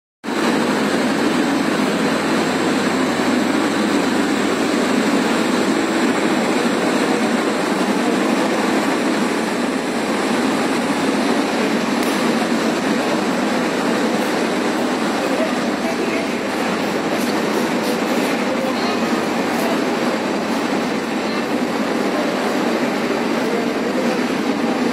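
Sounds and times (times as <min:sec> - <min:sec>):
train wheels and carriage rolling: 0:00.3 - 0:24.9.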